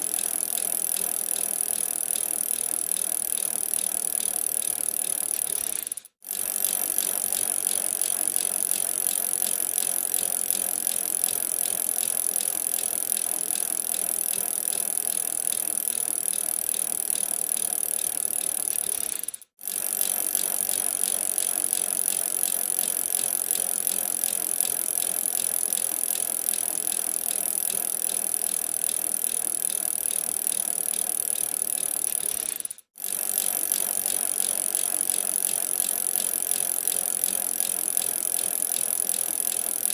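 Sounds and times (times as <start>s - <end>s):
bicycle running with rapid clicking: 0.0s - 39.9s.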